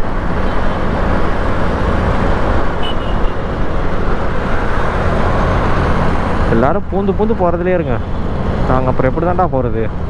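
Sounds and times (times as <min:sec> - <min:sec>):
rushing road and wind noise: 0:00.0 - 0:10.0.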